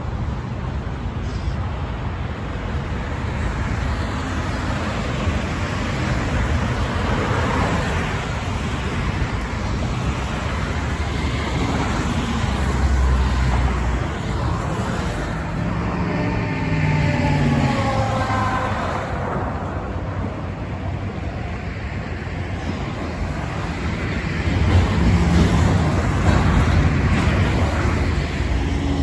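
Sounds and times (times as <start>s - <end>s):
highway traffic passing: 0.0s - 29.0s.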